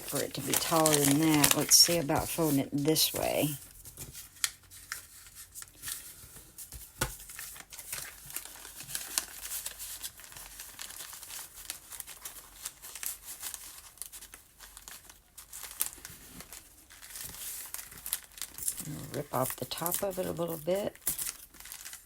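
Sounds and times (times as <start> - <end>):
paper crackling as creased: 0.0 - 22.0
paper crinkling and rustling: 0.0 - 22.0.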